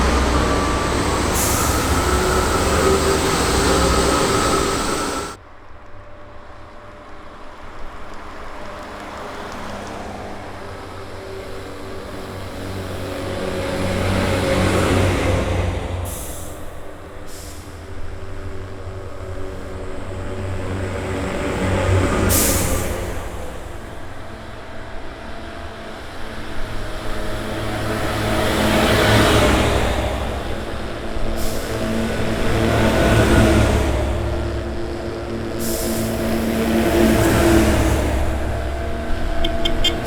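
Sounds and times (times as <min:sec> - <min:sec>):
heavy vehicle engines running: 0:00.0 - 0:40.0.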